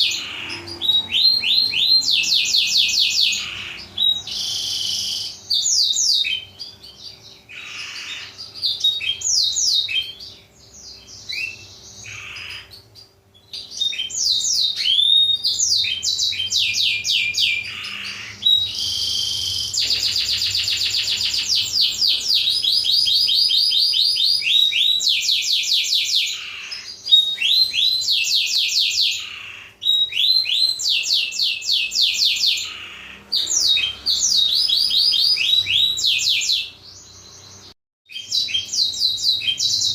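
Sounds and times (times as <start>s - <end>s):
canary singing whistled trills: 0.0s - 39.9s.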